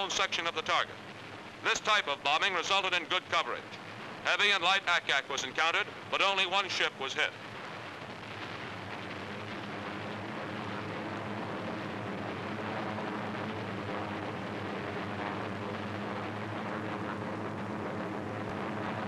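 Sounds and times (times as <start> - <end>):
propeller aircraft engines droning: 0.0 - 19.0.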